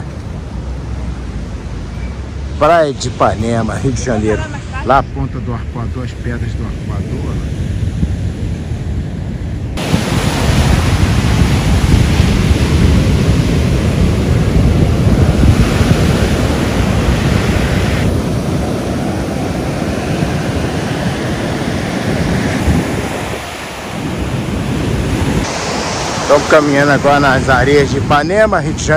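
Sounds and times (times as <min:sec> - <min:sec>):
ocean surf breaking on beach: 0:00.0 - 0:28.9
wind buffeting microphone: 0:00.0 - 0:28.9.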